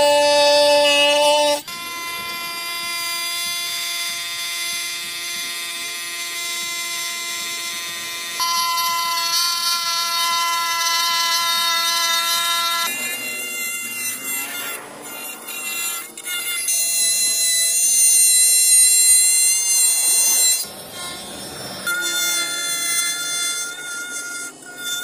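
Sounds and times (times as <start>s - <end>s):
rotary tool cutting plastic: 0.0s - 25.0s.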